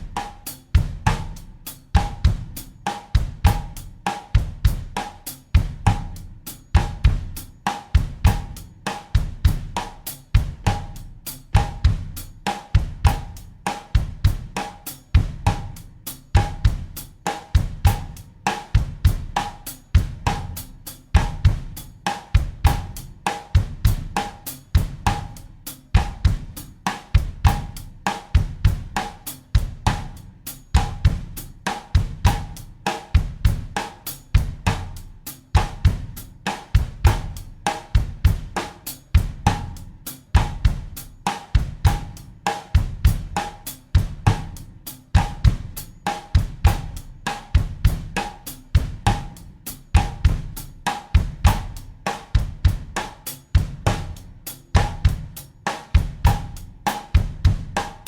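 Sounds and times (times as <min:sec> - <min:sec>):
acoustic drum kit groove: 0:00.0 - 0:58.0.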